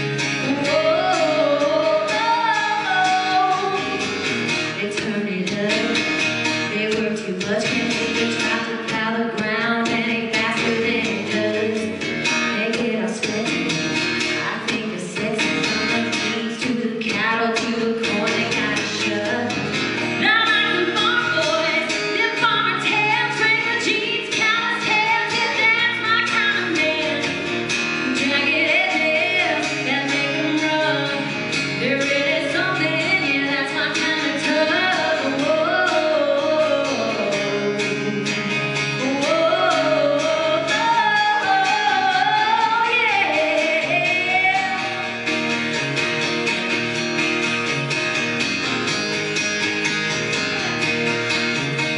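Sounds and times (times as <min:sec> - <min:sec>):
woman singing into microphone: 0:00.0 - 0:45.3
acoustic guitar strumming: 0:00.0 - 0:51.9.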